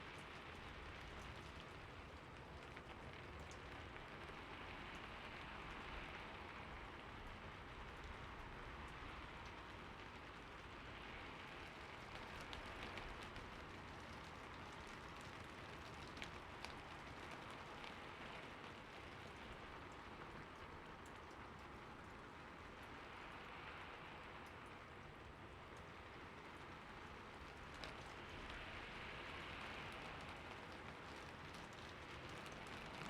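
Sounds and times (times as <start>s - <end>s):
heavy rain falling: 0.0s - 33.0s
raindrops ticking close by: 0.0s - 33.0s.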